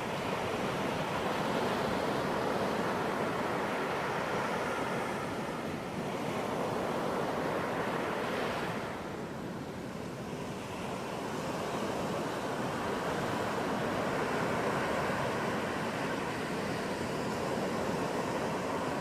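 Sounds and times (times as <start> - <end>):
ocean surf washing on beach: 0.0 - 19.0.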